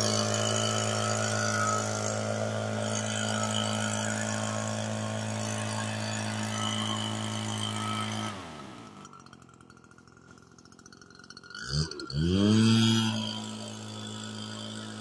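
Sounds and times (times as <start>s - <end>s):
leaf blower engine revving: 0.0s - 15.0s.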